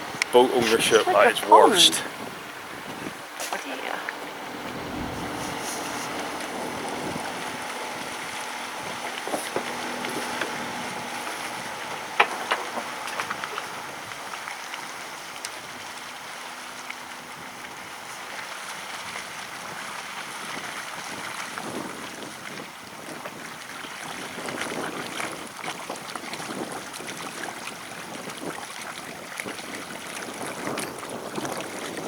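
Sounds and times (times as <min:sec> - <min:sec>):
water noise: 0:00.0 - 0:32.0
wind: 0:00.0 - 0:32.0.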